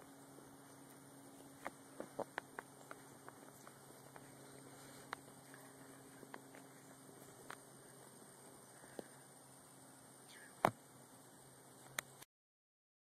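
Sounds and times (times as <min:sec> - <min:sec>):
faint hum and hiss: 0:00.0 - 0:12.3.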